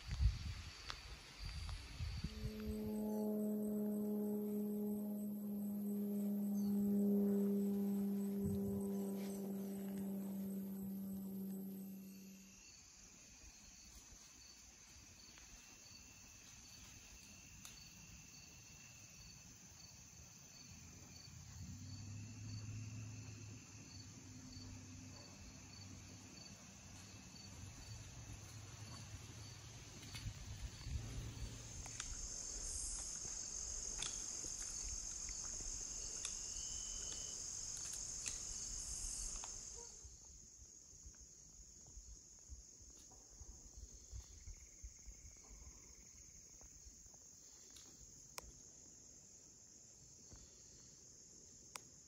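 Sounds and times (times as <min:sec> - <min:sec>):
crickets and insects trilling: 0:00.0 - 0:52.0.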